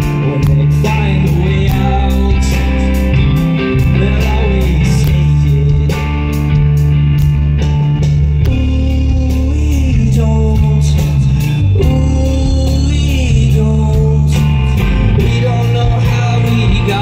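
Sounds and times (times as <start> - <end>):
bass guitar: 0.0 - 17.0
drums and cymbal hits: 0.0 - 17.0
electric guitars: 0.0 - 17.0.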